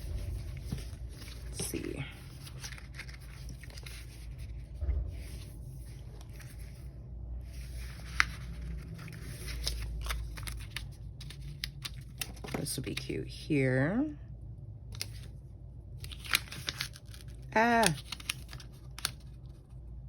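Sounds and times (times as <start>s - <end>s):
paper rustling: 0.0s - 13.0s, 16.0s - 19.8s
low steady hum: 0.0s - 20.0s.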